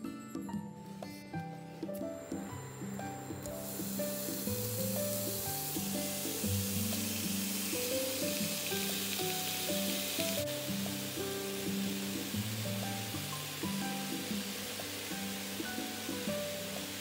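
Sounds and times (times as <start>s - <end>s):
background music: 0.0s - 17.0s
chicken sizzling in hot oil: 2.4s - 17.0s.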